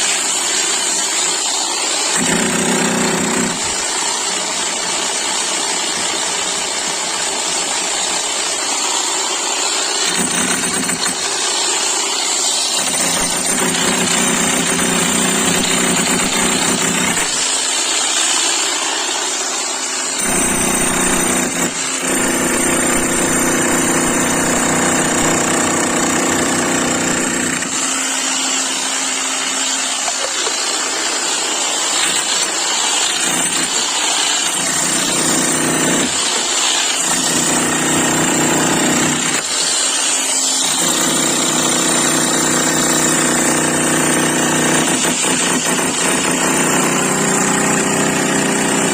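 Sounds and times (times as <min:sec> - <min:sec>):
electric demolition hammer pounding: 0:00.0 - 0:48.9.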